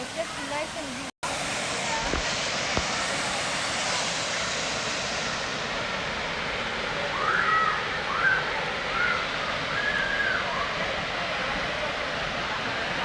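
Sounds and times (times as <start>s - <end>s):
water rushing over dam: 0.0s - 13.0s.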